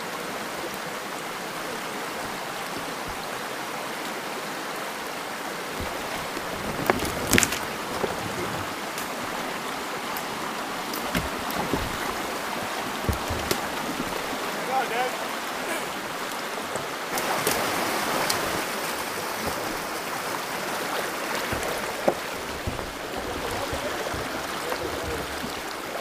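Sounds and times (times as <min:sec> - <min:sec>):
creek water rushing: 0:00.0 - 0:26.0
falling rain: 0:00.0 - 0:26.0.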